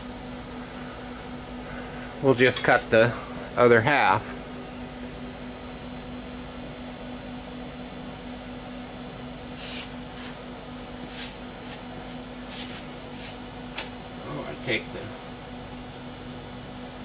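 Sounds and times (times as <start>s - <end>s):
mill motor hum: 0.0s - 17.0s.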